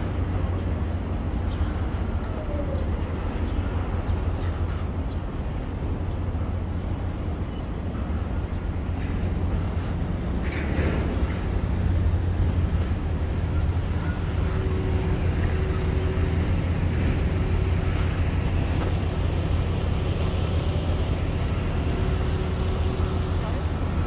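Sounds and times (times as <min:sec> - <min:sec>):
distant traffic: 0:00.0 - 0:24.0
wind: 0:00.0 - 0:24.0.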